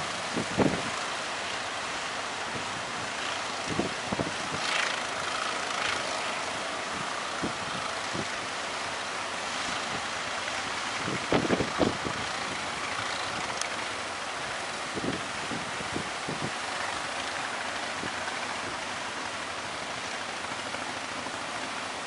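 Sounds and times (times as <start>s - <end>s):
wind blowing across microphone: 0.0s - 21.4s
breaking surf: 0.0s - 22.0s.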